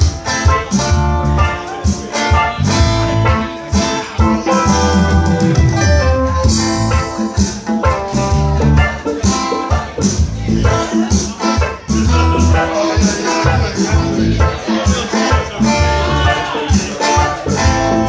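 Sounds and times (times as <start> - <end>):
reggae band playing: 0.0 - 18.0.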